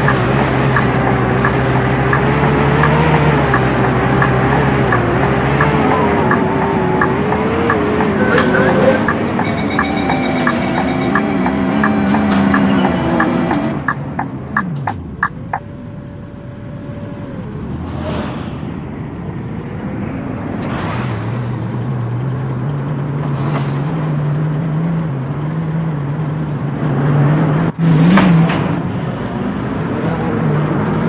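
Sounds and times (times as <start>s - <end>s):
bus diesel engine: 0.0s - 31.0s.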